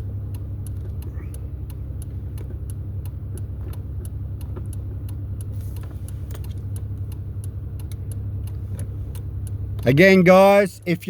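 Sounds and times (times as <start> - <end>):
car engine idling: 0.0 - 11.0
light regular ticking: 0.0 - 11.0.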